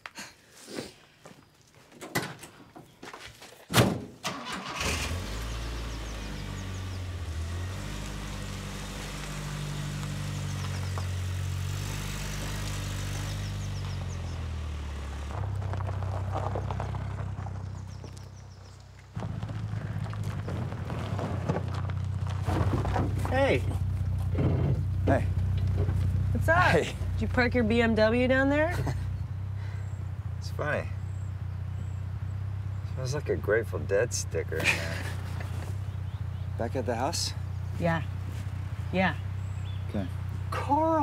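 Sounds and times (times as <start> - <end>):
van engine running: 4.2 - 41.0.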